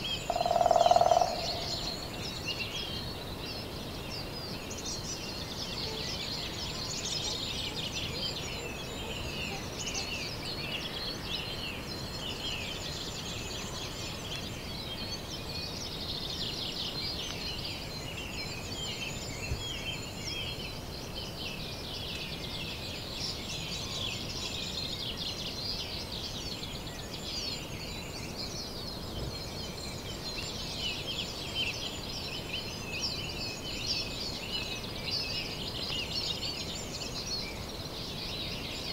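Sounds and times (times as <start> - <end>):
low steady background hiss: 0.0 - 38.9
songbirds chirping and trilling: 0.0 - 38.9.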